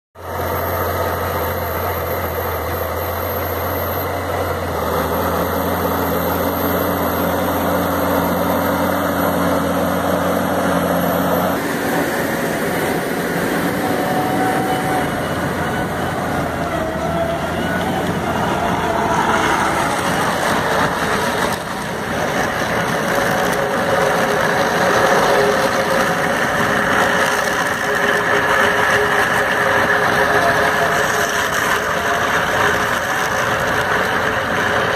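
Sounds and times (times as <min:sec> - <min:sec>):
stone crusher grinding soil and stones: 0:00.2 - 0:34.9
tractor engine running under load: 0:00.2 - 0:34.9.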